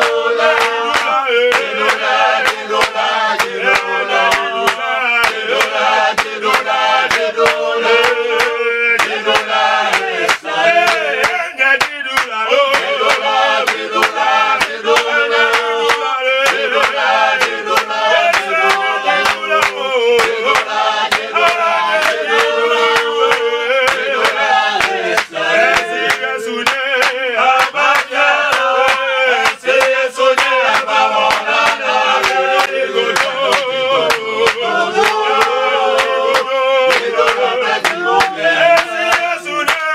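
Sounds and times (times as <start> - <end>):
men singing a worship song: 0.0 - 39.9.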